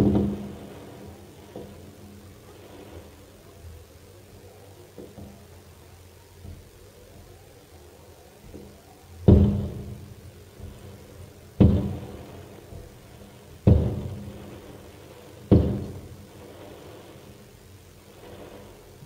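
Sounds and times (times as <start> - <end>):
fireworks booming with echo: 0.0 - 19.0.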